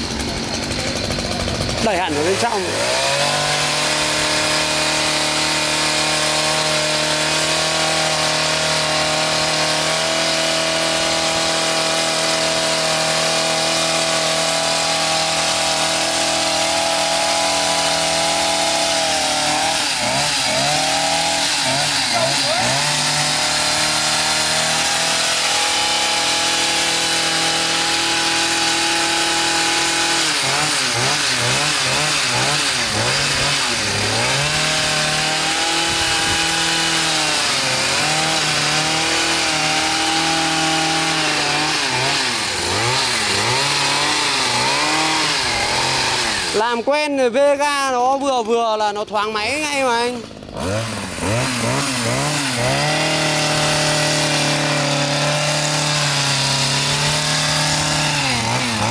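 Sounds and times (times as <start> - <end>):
hedge trimmer engine running: 0.0 - 58.9.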